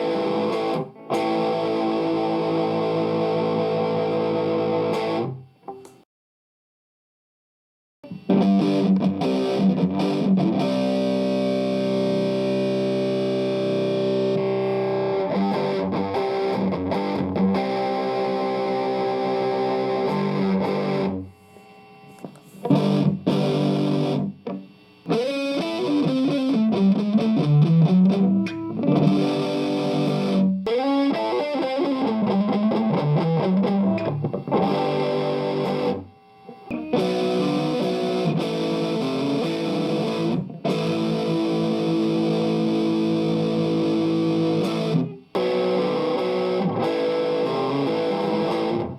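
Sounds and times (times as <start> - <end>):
overdriven electric guitar: 0.0 - 6.0, 8.0 - 48.9.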